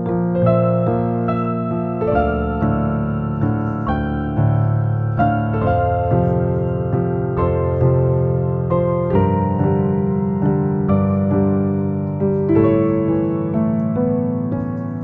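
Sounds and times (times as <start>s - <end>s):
piano playing sustained chords: 0.0s - 15.0s.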